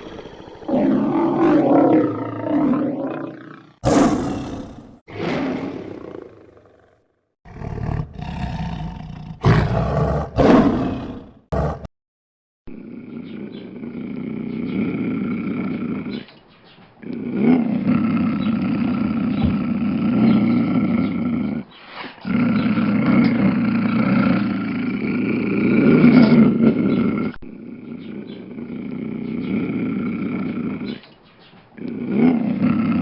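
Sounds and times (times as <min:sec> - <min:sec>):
lion roaring: 0:00.0 - 0:11.9, 0:17.0 - 0:31.0, 0:31.8 - 0:33.0.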